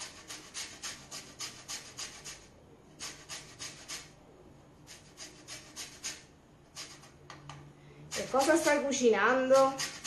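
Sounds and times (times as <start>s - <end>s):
grating on metal grater: 0.0s - 4.1s, 4.9s - 7.2s, 8.1s - 10.0s.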